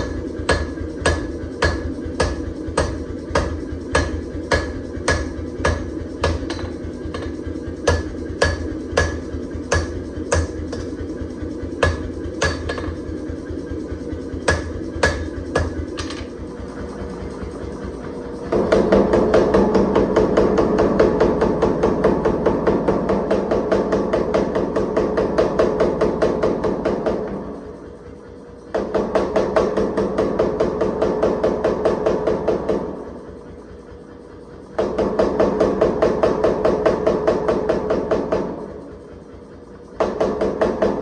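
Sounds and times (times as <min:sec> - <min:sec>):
power hammer pounding steel: 0:00.0 - 0:28.0, 0:28.7 - 0:33.9, 0:34.5 - 0:41.0
steady hum with faint tone: 0:00.0 - 0:41.0.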